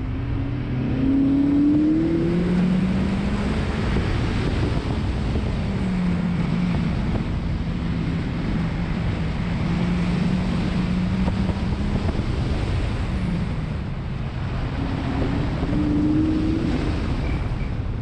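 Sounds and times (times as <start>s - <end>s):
wind rushing over car: 0.0s - 18.0s.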